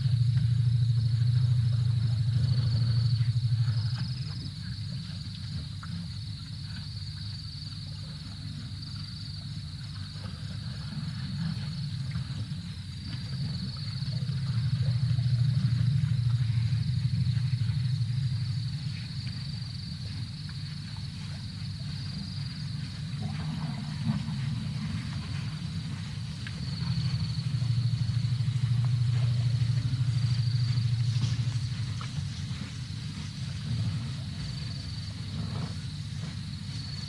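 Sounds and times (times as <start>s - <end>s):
low rumble: 0.0s - 6.2s, 10.8s - 37.0s
crickets chirring: 0.0s - 37.0s.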